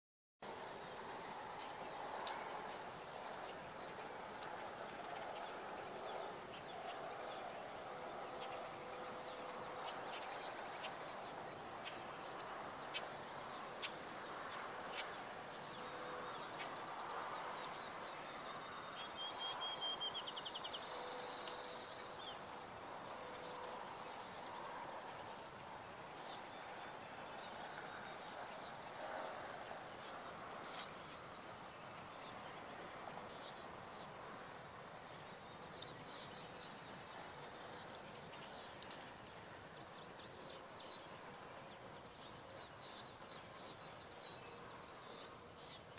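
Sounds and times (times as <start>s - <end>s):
insects chirping: 0.6s - 45.9s.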